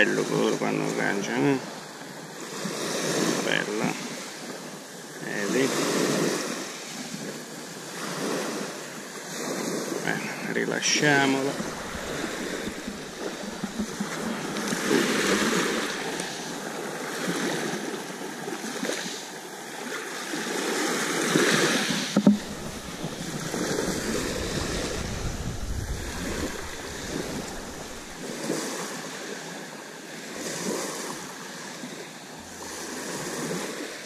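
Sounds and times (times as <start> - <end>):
waves washing up pebble beach: 0.0 - 34.0.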